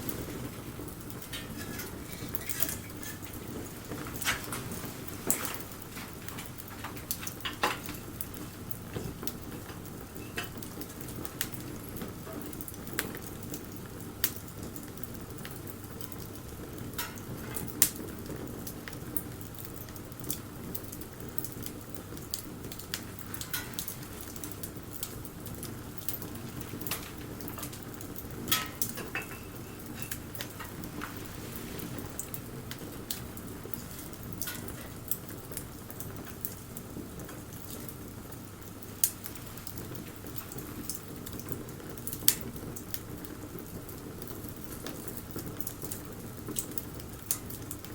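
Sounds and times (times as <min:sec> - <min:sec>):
bonfire crackling and popping: 0:00.0 - 0:47.9.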